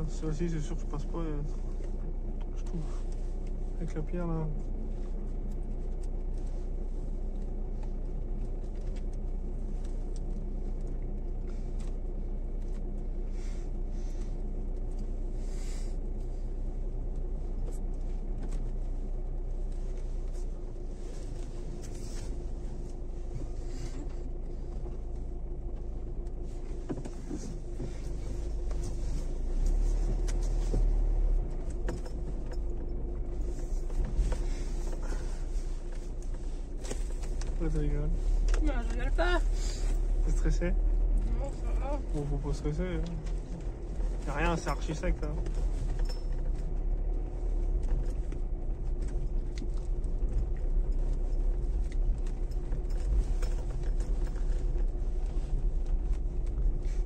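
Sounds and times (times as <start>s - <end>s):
car engine hum: 0.0s - 57.0s
tyres rumbling on dirt track: 0.0s - 57.0s.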